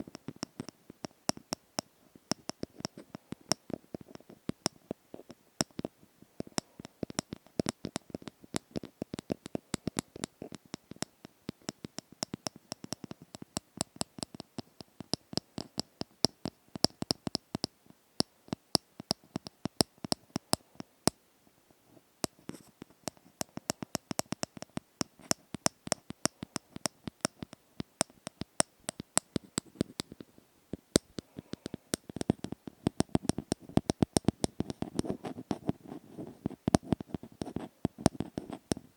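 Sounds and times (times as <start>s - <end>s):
quick irregular tapping and clicks: 0.0s - 21.2s, 22.2s - 38.9s.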